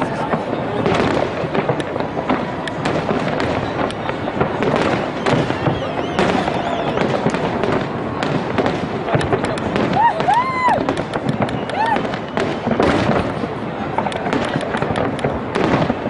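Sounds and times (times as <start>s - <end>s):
fireworks bangs and crackling: 0.0s - 16.0s
fireworks whistles: 0.0s - 16.0s.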